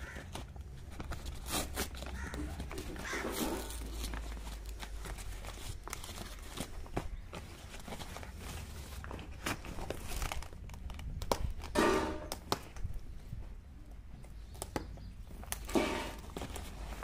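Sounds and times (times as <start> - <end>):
plastic bag crinkling and rustling: 0.0 - 13.4, 14.4 - 17.0.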